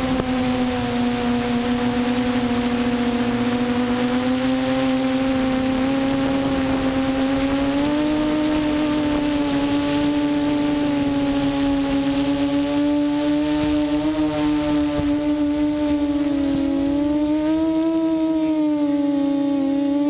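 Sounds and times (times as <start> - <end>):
quadcopter motors humming: 0.0 - 20.0.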